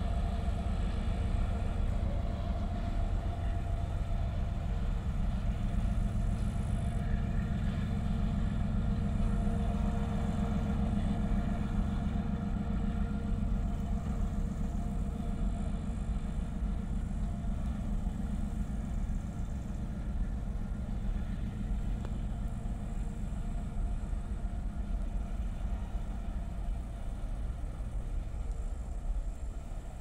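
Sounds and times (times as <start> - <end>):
diesel locomotive engine drone: 0.0 - 30.0
low train rumble: 0.0 - 30.0.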